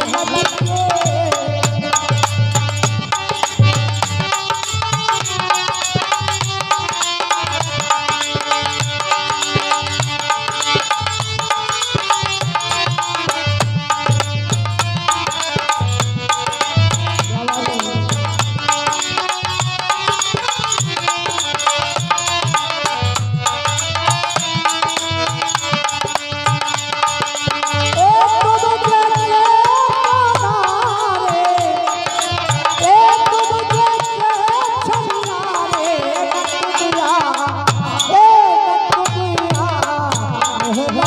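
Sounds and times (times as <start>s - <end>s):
fast hand-drumming: 0.0s - 38.3s
wavering trilling melody instrument: 0.0s - 39.0s
jingling percussion: 0.0s - 41.0s.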